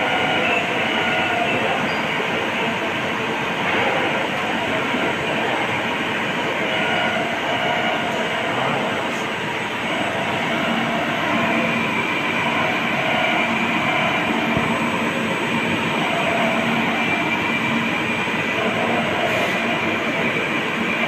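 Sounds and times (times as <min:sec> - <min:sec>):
cnc machine hiss and hum: 0:00.0 - 0:21.0.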